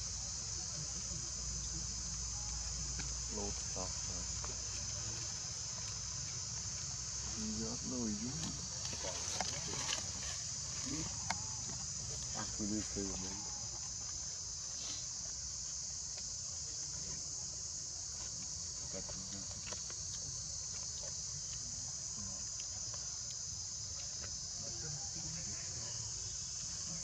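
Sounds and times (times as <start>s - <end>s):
insect chorus shrilling: 0.0s - 27.0s.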